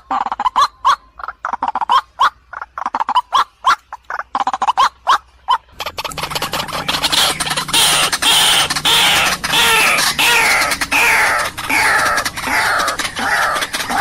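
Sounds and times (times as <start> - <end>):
waterhens calling harshly: 0.0 - 14.0.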